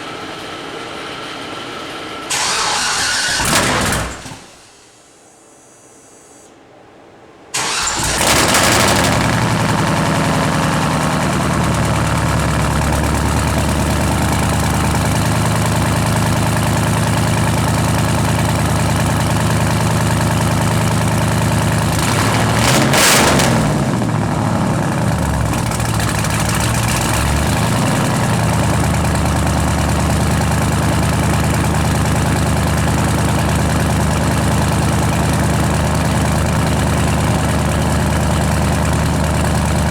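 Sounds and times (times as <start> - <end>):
car engine idling and revving: 7.6 - 39.9.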